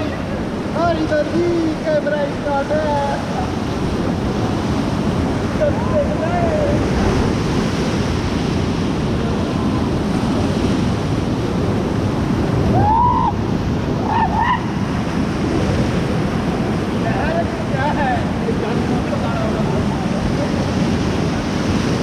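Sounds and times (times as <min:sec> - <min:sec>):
river rapids rushing: 0:00.0 - 0:22.0
wind buffeting microphone: 0:00.0 - 0:22.0.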